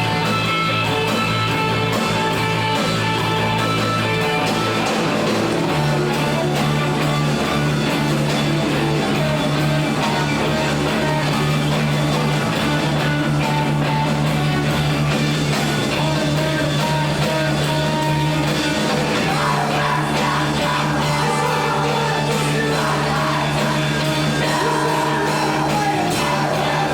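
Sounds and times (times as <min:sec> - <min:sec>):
live rock music electric guitars: 0:00.0 - 0:26.9.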